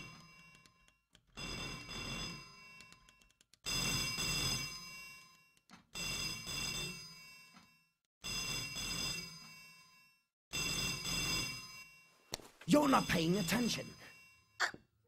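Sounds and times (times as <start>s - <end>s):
telephone bell ringing: 0.0s - 14.7s.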